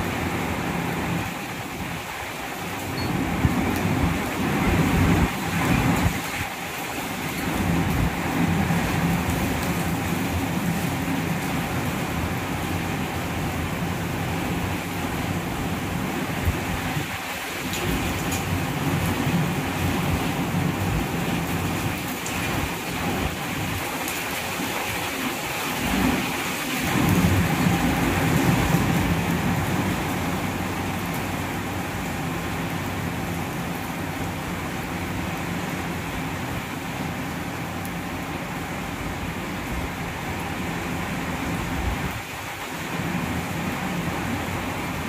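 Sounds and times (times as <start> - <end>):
heavy rain: 0.0 - 45.0
wind rumbling on microphone: 3.1 - 45.0.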